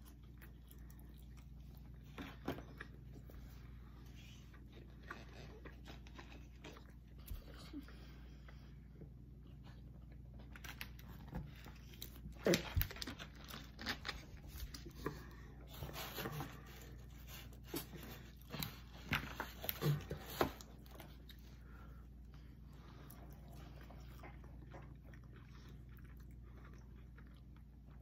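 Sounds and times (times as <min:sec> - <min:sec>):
people chewing and smacking: 0:00.0 - 0:28.0.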